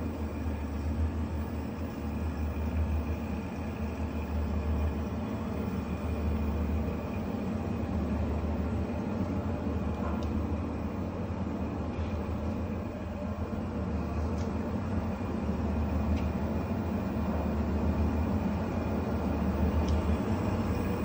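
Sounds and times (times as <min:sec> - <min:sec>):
electric machine humming and whirring: 0:00.0 - 0:21.0.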